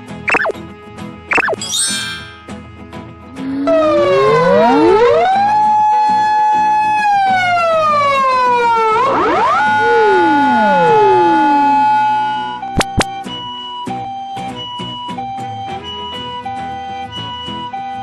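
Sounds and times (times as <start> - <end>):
emergency vehicle sirens wailing: 3.4 - 18.0.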